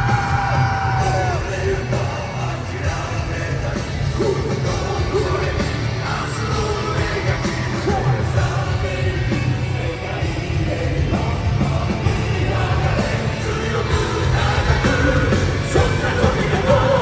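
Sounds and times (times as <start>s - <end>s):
distorted guitars: 0.0s - 17.0s
drums: 0.0s - 17.0s.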